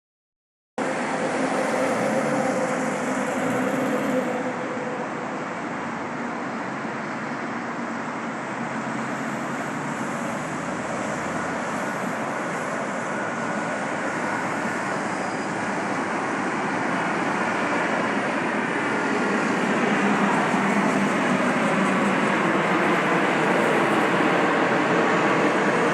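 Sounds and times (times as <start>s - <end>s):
jet airliner engines rushing: 0.8s - 25.9s.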